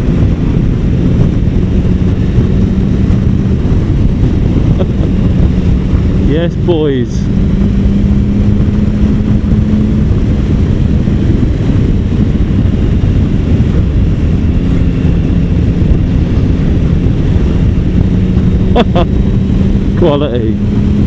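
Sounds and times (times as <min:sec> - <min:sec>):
motorcycle engine running: 0:00.0 - 0:21.0
road noise: 0:00.0 - 0:21.0
wind rushing: 0:00.0 - 0:21.0.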